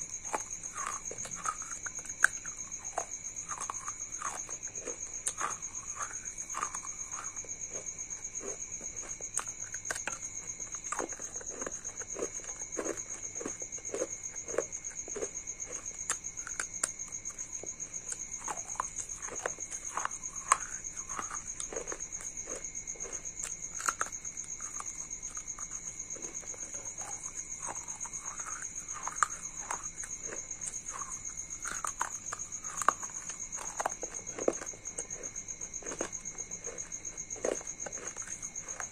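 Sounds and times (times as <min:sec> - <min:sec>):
crunching and chewing clay pieces: 0:00.0 - 0:38.9.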